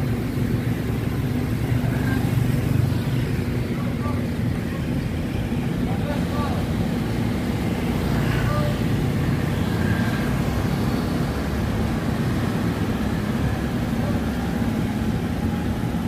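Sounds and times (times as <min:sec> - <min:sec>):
street traffic rumble: 0:00.0 - 0:16.0
vehicles passing: 0:00.0 - 0:16.0.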